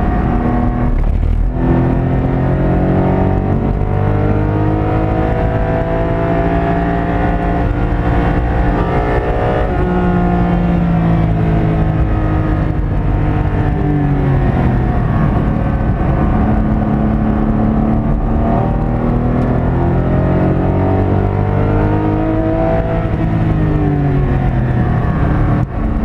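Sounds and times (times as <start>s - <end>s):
car engine at speed: 0.0s - 26.0s
tyre and road rumble: 0.0s - 26.0s.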